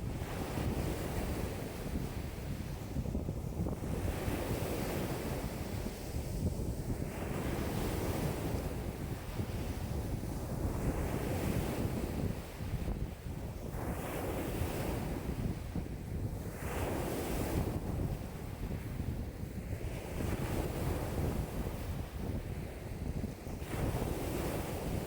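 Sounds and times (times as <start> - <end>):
waves breaking on shore: 0.0 - 25.0
wind buffeting microphone: 0.0 - 25.0.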